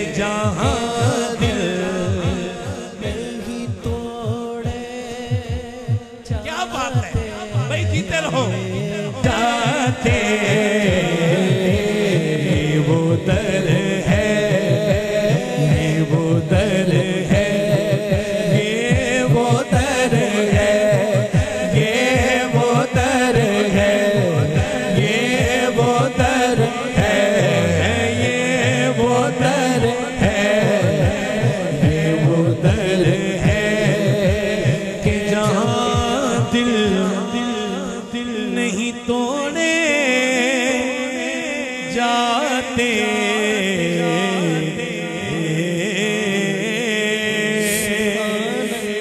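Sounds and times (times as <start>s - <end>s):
man singing into a microphone: 0.0s - 49.0s.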